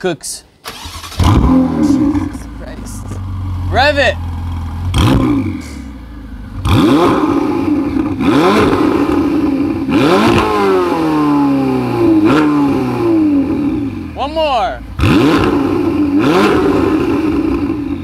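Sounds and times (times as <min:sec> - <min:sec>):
car engine revving: 0:00.7 - 0:18.0.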